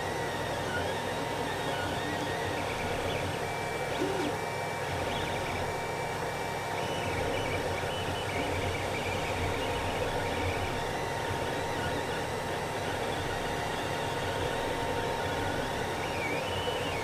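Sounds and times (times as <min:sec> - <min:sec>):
cooling fan hum: 0:00.0 - 0:17.0
stepper motors whining: 0:00.0 - 0:17.0.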